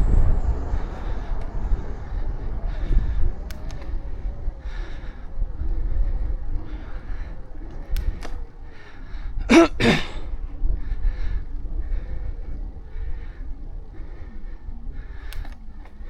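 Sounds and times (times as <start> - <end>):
wind rumble on microphone: 0.0 - 16.0
cyclist coughing breath: 0.1 - 16.0.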